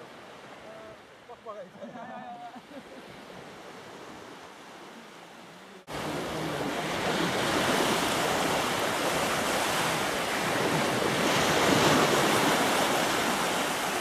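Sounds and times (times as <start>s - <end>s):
small waves breaking on beach: 0.0s - 14.0s
wind: 0.0s - 14.0s.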